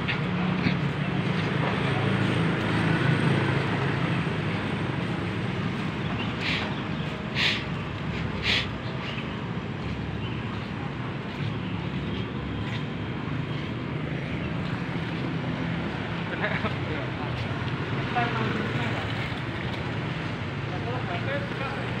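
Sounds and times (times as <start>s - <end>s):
traffic hum: 0.0s - 22.0s.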